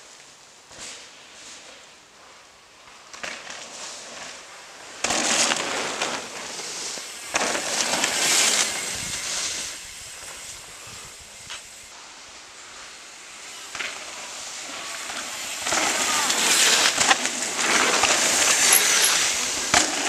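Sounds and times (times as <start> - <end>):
bike tyres crunching dry leaves: 0.0 - 20.0.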